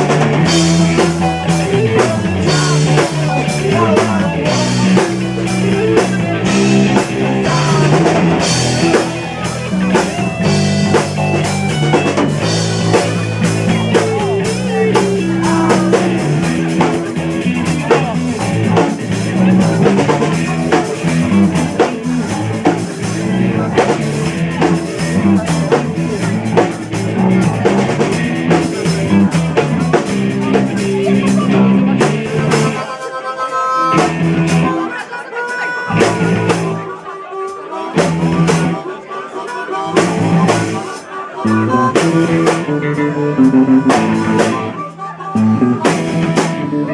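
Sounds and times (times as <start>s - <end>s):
bass guitar: 0.0s - 35.0s, 35.8s - 37.0s, 37.9s - 38.9s, 39.7s - 46.9s
electric guitar: 0.0s - 38.9s, 39.5s - 46.9s
drum kit: 0.0s - 46.9s.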